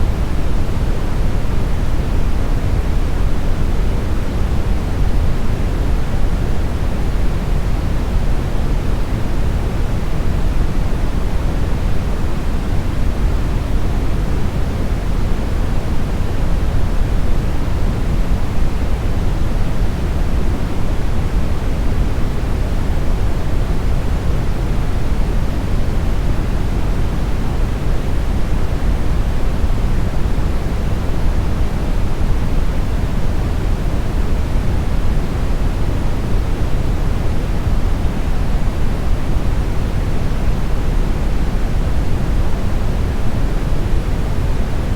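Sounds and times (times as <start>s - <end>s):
brown noise hiss: 0.0s - 44.9s.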